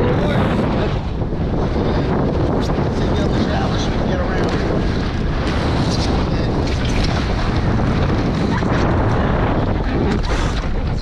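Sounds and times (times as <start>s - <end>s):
water rushing past hulls: 0.0s - 11.0s
wind buffeting microphone: 0.0s - 11.0s.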